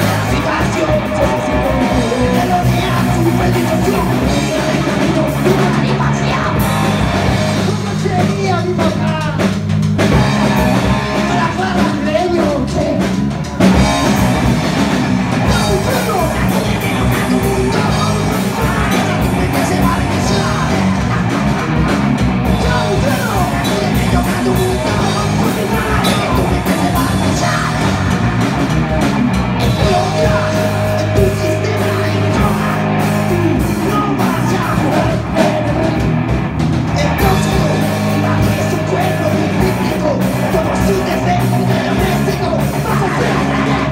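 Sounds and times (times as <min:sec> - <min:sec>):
person singing: 0:00.0 - 0:09.5, 0:10.5 - 0:13.7, 0:15.4 - 0:28.2, 0:29.6 - 0:36.1, 0:37.0 - 0:43.9
distorted electric guitars: 0:00.0 - 0:43.9
drum kit: 0:00.0 - 0:43.9.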